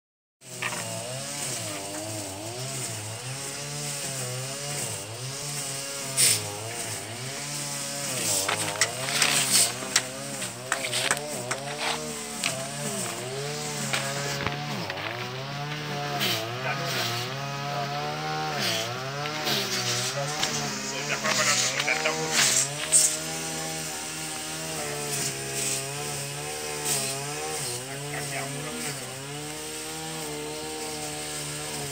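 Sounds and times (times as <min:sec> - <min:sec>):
bees buzzing: 0:00.4 - 0:31.9.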